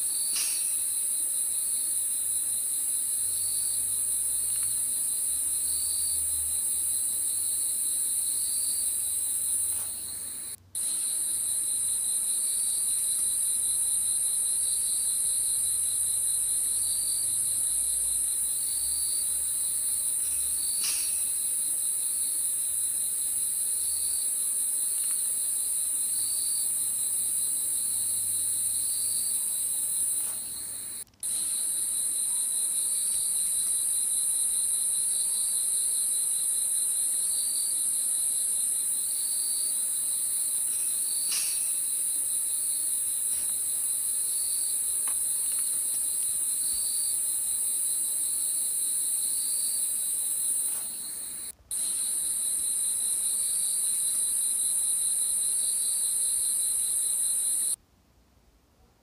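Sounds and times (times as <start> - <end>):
crickets chirping: 0.0 - 57.8.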